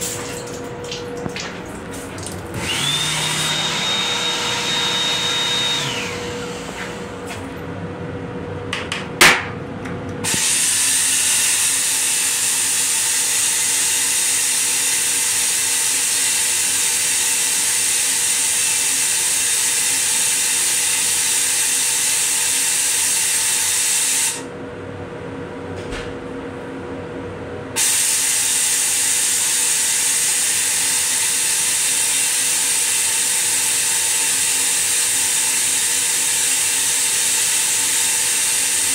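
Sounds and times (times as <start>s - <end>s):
toilet flushing rushing hiss: 0.0s - 7.6s, 10.2s - 24.5s, 27.8s - 38.9s.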